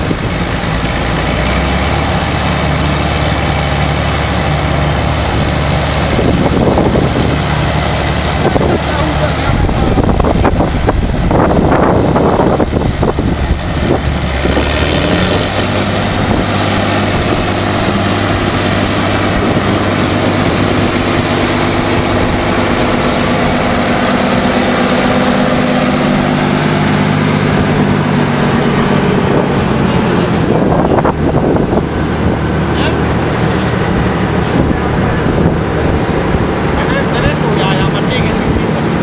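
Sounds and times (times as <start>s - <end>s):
tractor diesel engine revving: 0.0s - 39.0s.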